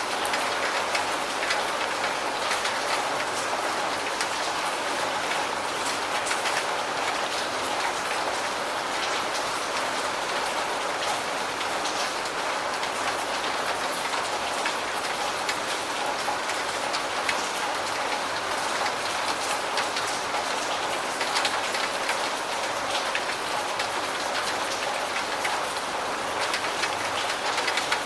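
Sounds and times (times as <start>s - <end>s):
raindrops ticking on a surface: 0.0s - 28.0s.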